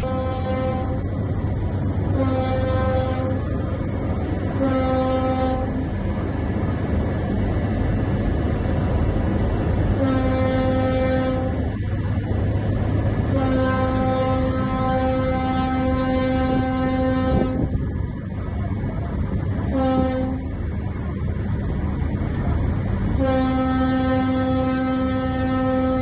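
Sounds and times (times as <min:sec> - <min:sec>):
ship's horn blasts: 0:00.0 - 0:06.3, 0:09.0 - 0:21.2, 0:23.0 - 0:26.0
engine rumble: 0:00.0 - 0:26.0
wind rumble: 0:00.0 - 0:26.0.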